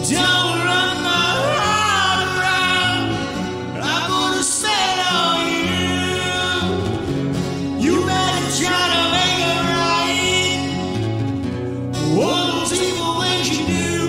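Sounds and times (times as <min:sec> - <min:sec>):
man singing: 0:00.0 - 0:11.2, 0:12.0 - 0:14.0
strummed acoustic guitar: 0:00.0 - 0:14.0.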